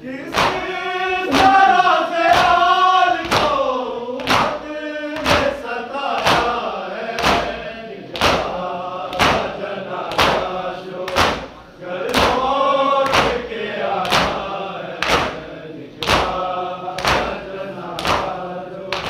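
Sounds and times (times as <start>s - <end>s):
group of voices chanting lament: 0.0s - 19.0s
sharp rhythmic chest slaps: 0.2s - 19.0s.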